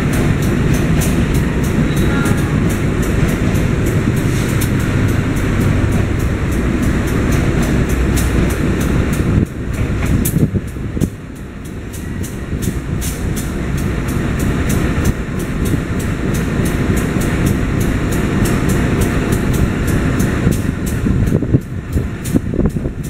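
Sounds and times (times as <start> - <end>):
train wheels rumbling on rails: 0.0 - 23.0
wheels clicking over rail joints: 0.0 - 23.0.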